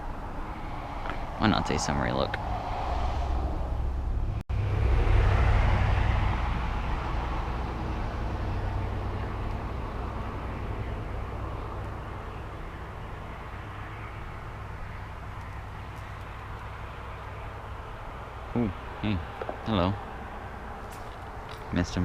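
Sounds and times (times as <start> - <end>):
vehicle passing with tyre noise: 0.0 - 22.0.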